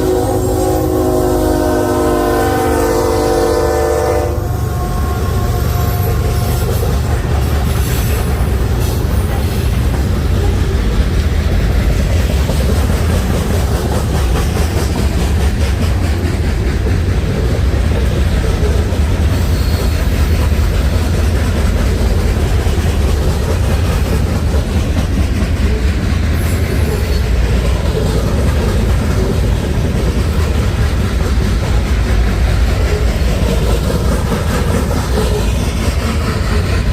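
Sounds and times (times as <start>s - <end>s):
freight train rumbling past: 0.0s - 36.9s
wheels clattering on rails: 5.4s - 36.9s.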